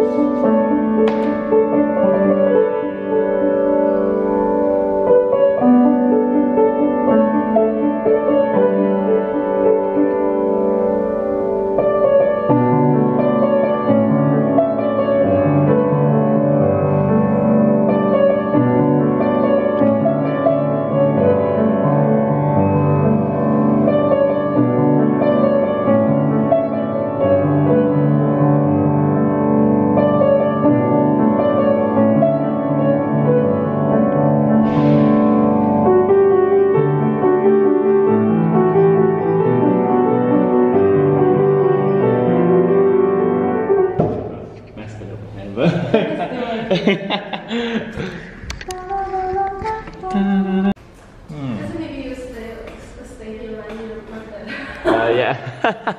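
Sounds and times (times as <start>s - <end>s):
piano melody over chords: 0.0s - 45.4s.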